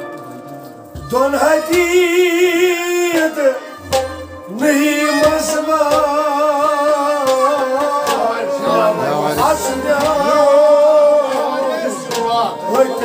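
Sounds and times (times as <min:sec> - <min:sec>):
harmonium: 0:00.0 - 0:13.0
man singing: 0:00.8 - 0:13.0.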